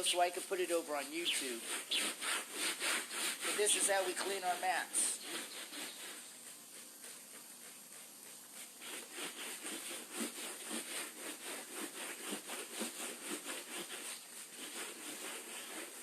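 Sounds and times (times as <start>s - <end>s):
scrubbing rubber mat: 0.0s - 16.0s.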